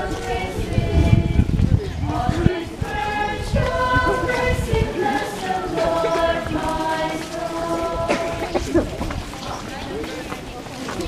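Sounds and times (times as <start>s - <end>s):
congregation singing a hymn: 0.0s - 10.4s.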